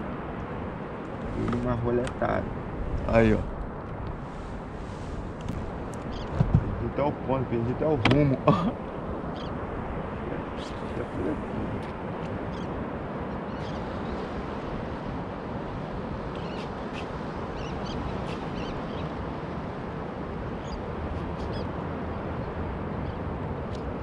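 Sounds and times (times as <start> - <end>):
water noise: 0.0 - 24.0
wind: 0.0 - 24.0.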